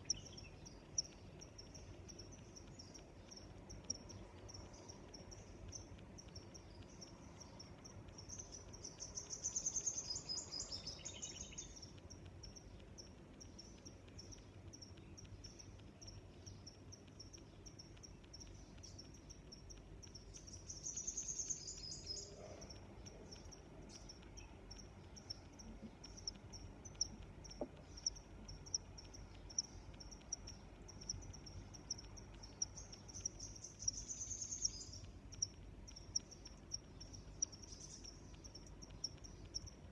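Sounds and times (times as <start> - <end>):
cricket trill: 0.0 - 39.9
crickets chirping: 0.0 - 39.9.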